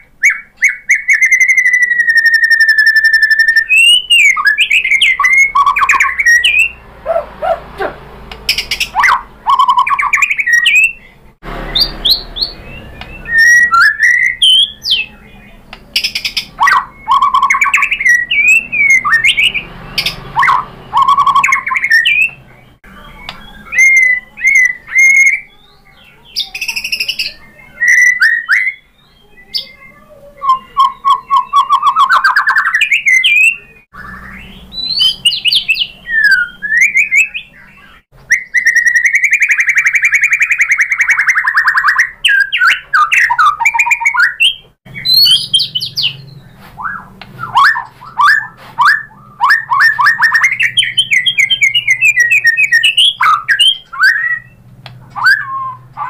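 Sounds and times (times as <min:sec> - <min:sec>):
bird singing whistled phrases: 0:00.0 - 0:06.8, 0:08.5 - 0:54.6, 0:55.2 - 0:56.0.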